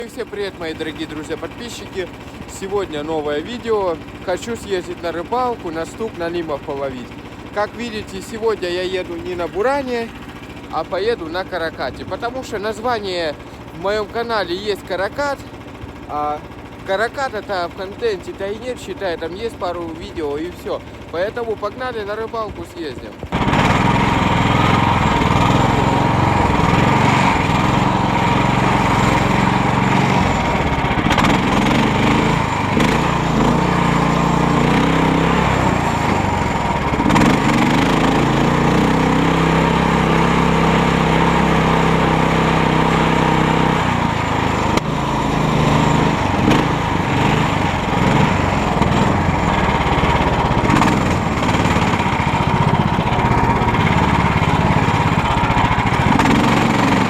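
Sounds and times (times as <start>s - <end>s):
swamp buggy engine running: 0.0s - 57.0s.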